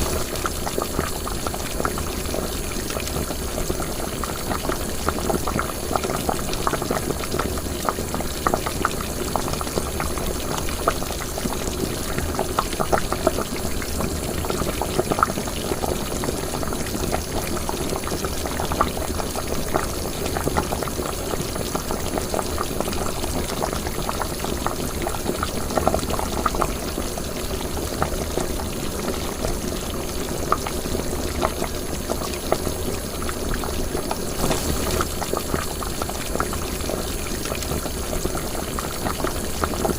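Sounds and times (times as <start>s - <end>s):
liquid boiling in a pot: 0.0s - 39.9s.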